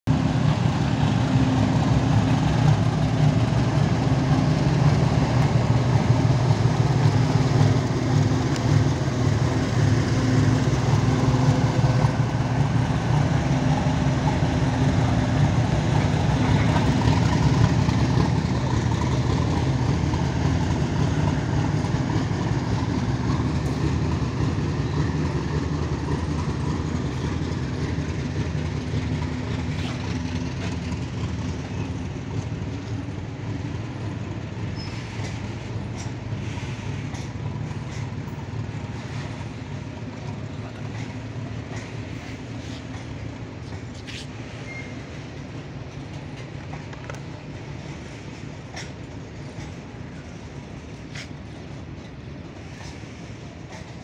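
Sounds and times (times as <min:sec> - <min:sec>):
diesel locomotive engine droning: 0:00.0 - 0:54.0.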